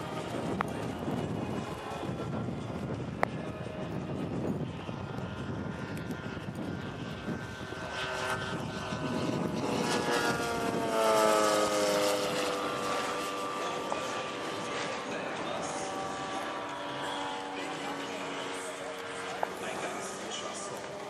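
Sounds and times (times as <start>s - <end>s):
model plane engine flying past: 0.0s - 21.0s.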